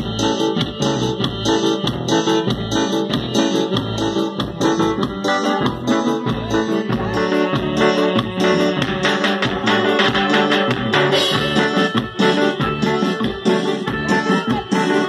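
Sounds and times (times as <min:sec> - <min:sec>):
dance music with electric keyboard: 0:00.0 - 0:15.0.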